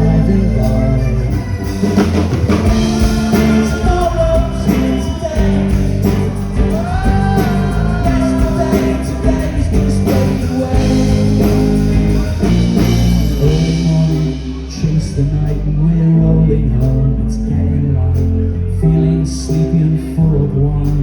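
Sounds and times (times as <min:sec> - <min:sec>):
live pop-rock band playing: 0:00.0 - 0:21.0
person singing: 0:00.0 - 0:21.0.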